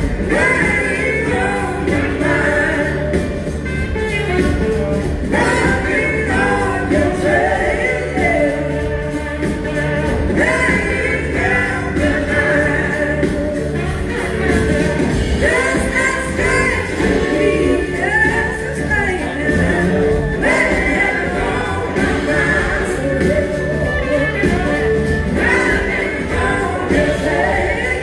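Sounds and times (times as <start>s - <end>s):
live blues-rock band playing: 0.0s - 28.0s.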